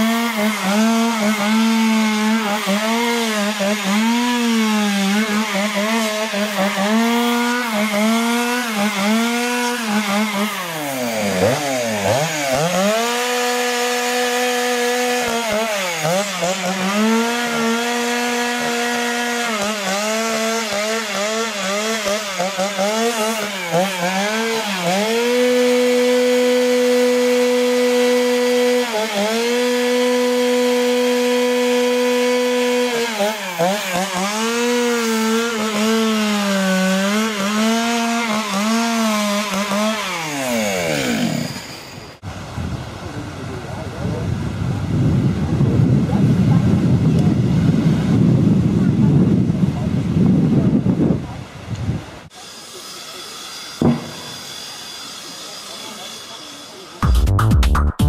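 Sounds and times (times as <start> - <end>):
chainsaw cutting wood: 0.0 - 42.3, 52.3 - 57.5.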